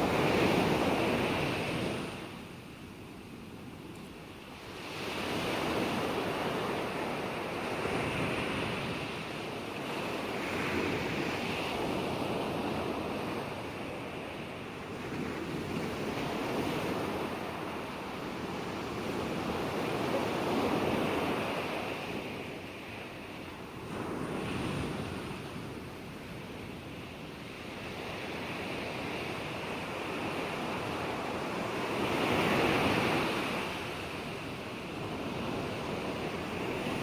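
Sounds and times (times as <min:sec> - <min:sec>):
ocean waves breaking on shore: 0:00.0 - 0:37.0.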